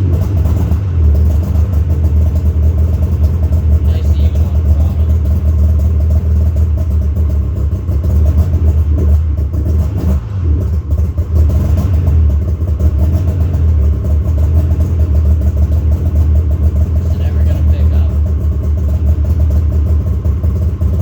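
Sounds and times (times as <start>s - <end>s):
snowmobile engine idling: 0.0s - 21.0s.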